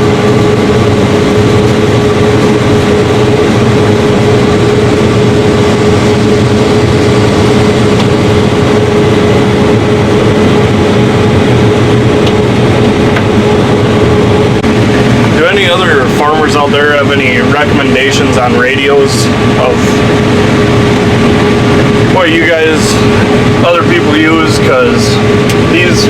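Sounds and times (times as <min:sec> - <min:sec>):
combine harvester engine drone: 0:00.0 - 0:26.0
steady machine whine: 0:00.0 - 0:26.0.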